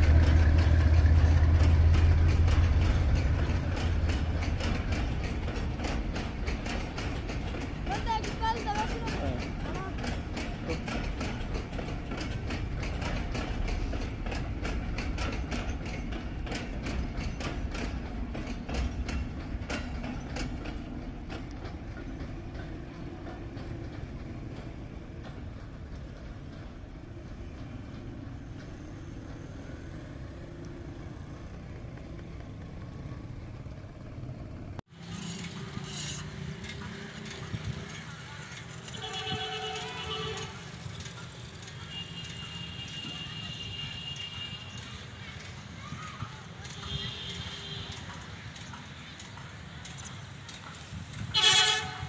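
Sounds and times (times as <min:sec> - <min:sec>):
low train rumble: 0:00.0 - 0:52.0
train wheels clattering over rail joints: 0:00.0 - 0:52.0.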